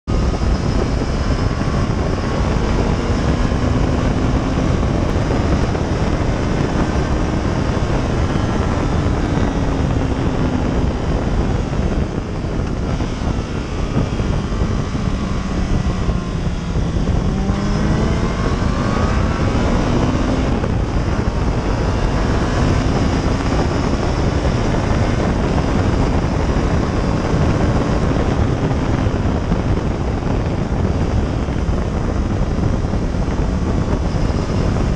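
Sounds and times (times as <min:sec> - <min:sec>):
motorcycle engine revving through gears: 0:00.0 - 0:34.9
wind rush on microphone: 0:00.0 - 0:34.9.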